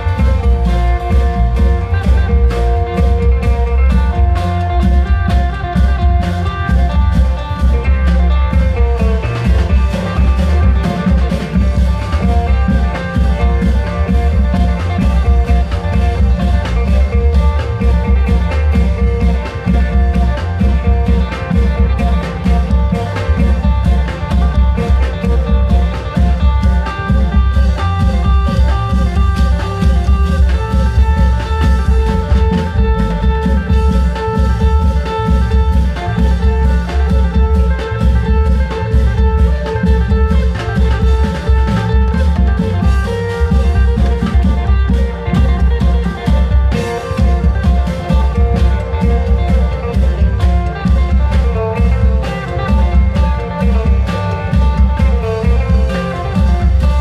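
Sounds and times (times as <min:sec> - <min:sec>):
heavy repeated drum beats: 0:00.0 - 0:57.0
long held instrument melody: 0:00.0 - 0:57.0.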